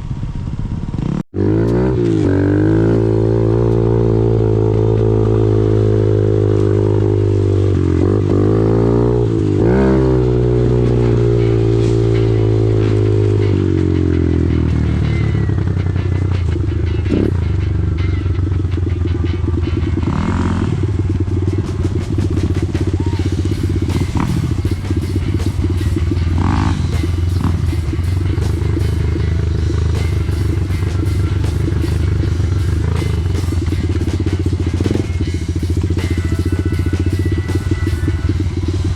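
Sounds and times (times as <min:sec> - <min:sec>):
off-road vehicle engine revving: 0:00.9 - 0:38.9.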